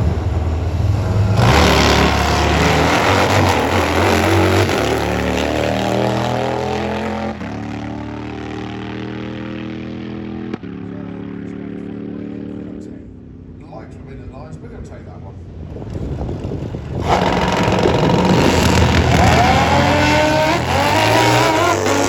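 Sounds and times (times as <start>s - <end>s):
drag racing motorcycle engines: 0.0s - 22.0s.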